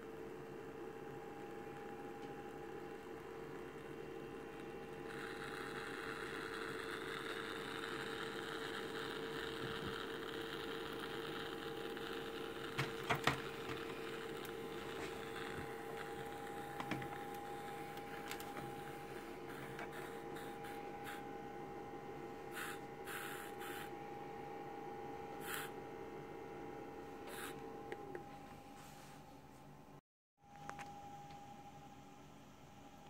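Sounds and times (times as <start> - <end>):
humidifier humming and hissing: 0.0 - 33.0.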